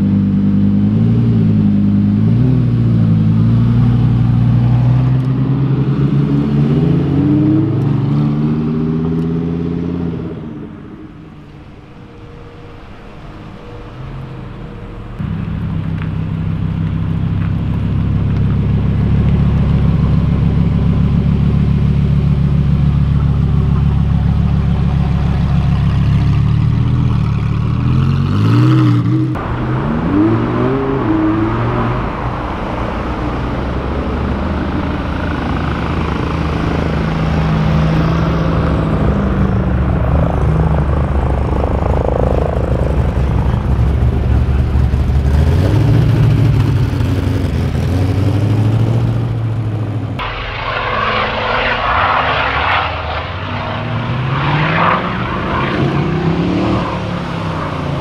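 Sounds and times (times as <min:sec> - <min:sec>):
car engines revving and driving off: 0:00.0 - 0:58.0.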